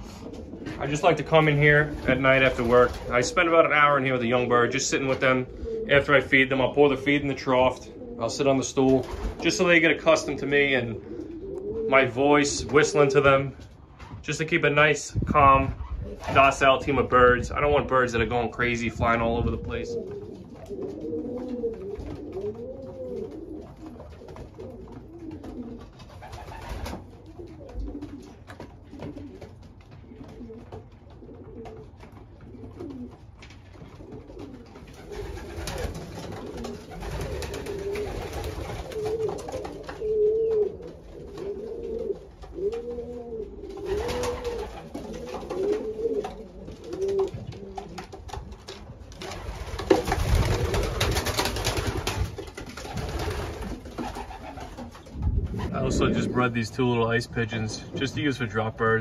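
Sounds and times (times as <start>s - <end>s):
pigeons cooing: 0.0s - 14.2s, 15.6s - 59.0s.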